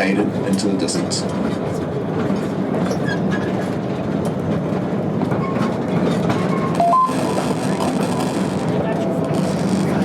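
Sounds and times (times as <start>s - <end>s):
clickety-clack of rails: 0.0s - 10.0s
train wheels rumbling on rails: 0.0s - 10.0s.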